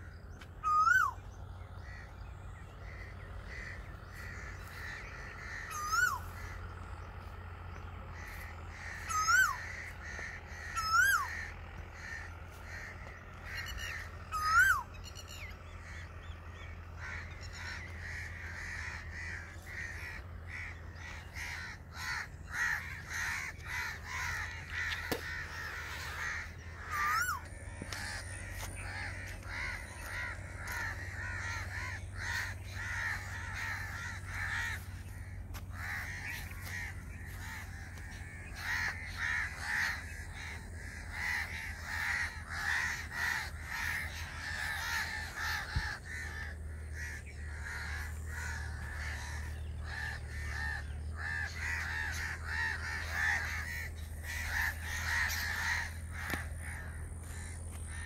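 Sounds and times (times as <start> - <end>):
bird call sweeping up and down: 0.0 - 58.0
small birds chirping: 0.0 - 58.0.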